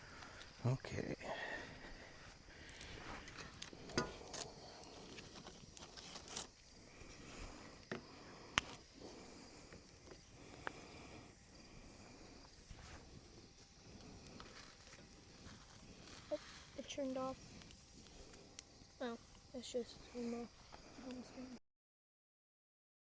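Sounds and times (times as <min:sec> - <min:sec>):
faint outdoor background: 0:00.0 - 0:21.6.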